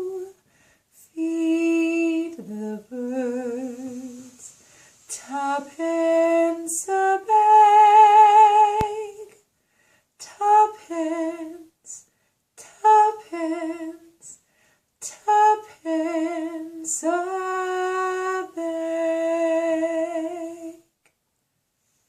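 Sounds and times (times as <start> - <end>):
woman singing a lullaby: 0.0 - 0.4, 1.0 - 9.4, 10.2 - 14.4, 15.0 - 21.0.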